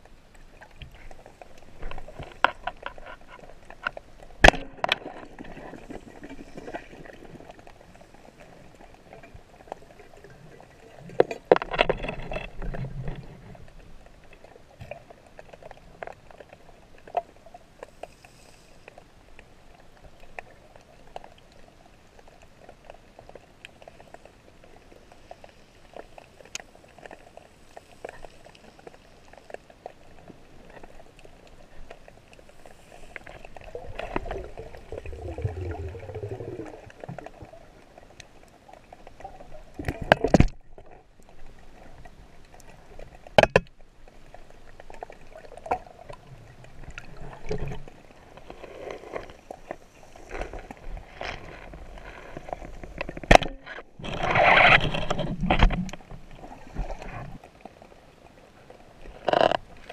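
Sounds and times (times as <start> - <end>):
water rushing and gurgling: 0.0 - 17.8, 22.6 - 59.9
small clicks and crackles: 0.0 - 59.9.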